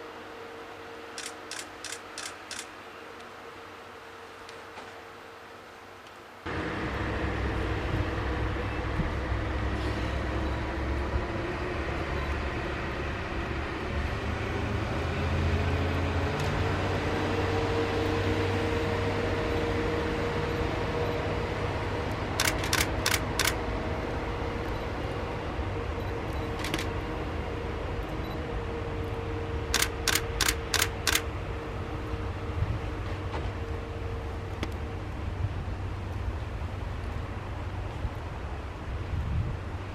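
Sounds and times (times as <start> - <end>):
train running rumble: 6.5 - 39.9.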